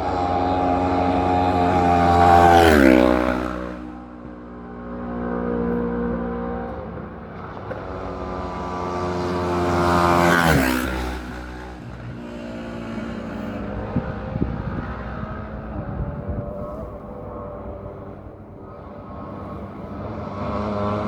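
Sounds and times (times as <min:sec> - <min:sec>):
racing motorcycle passing by: 0:00.0 - 0:21.0.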